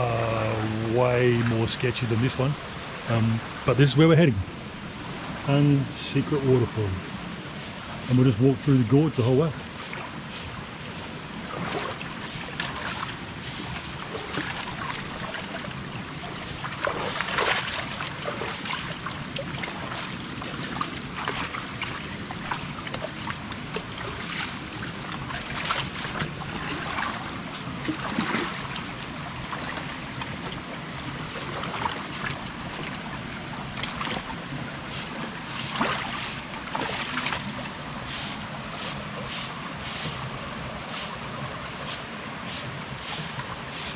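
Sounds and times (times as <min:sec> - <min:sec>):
stream water running over rocks: 0:00.0 - 0:43.9
water splashes: 0:00.0 - 0:43.9.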